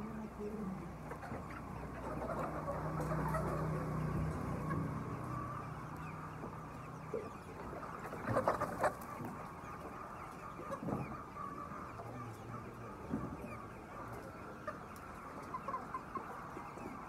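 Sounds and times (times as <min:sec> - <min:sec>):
chickens squawking loudly: 0:00.0 - 0:17.0
flock of chickens clucking: 0:00.0 - 0:17.0.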